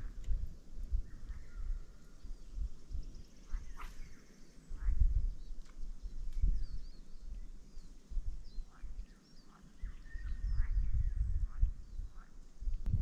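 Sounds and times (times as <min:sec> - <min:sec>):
small birds chirping and singing: 0:00.0 - 0:12.8
low rumble on microphone: 0:00.0 - 0:13.0.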